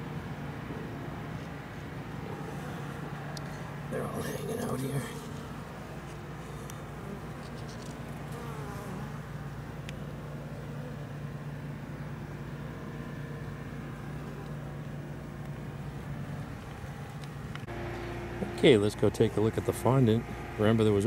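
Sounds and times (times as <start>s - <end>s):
honeybees buzzing: 1.5s - 21.0s.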